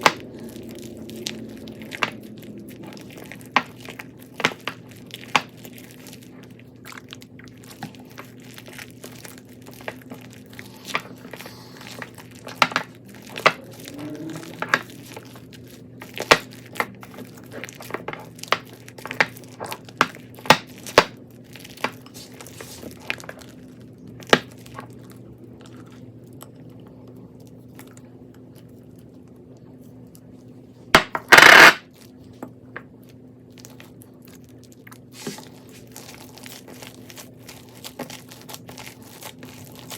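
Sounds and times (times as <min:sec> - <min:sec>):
crunchy slime crackling: 0:00.0 - 0:26.5, 0:31.0 - 0:39.9
faint low hum: 0:00.0 - 0:39.9.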